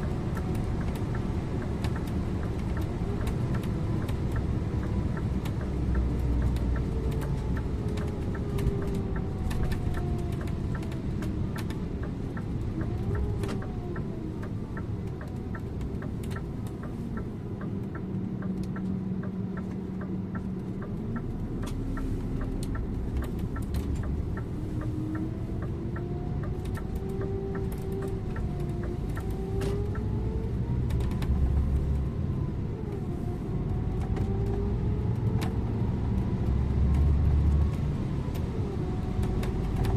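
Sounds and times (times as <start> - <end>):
bus engine: 0.0 - 39.9
road noise: 0.0 - 39.9.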